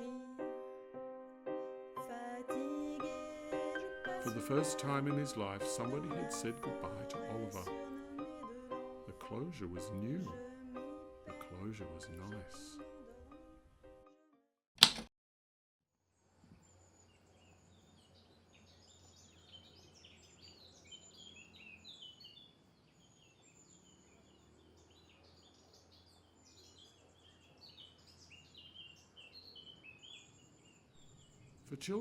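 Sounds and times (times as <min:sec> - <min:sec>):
small birds chirping: 0:02.6 - 0:13.1, 0:16.2 - 0:32.0.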